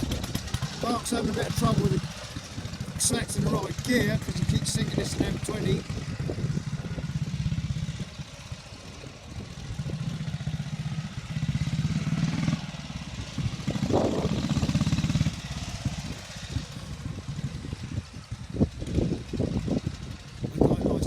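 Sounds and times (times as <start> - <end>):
motorcycle engine chugging: 0.0 - 21.0.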